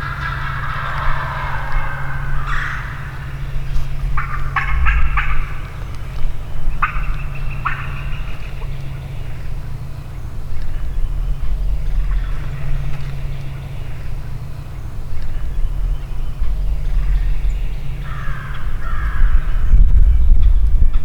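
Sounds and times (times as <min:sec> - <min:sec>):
turkeys gobbling: 0:00.0 - 0:19.8
low rumble: 0:00.0 - 0:21.0.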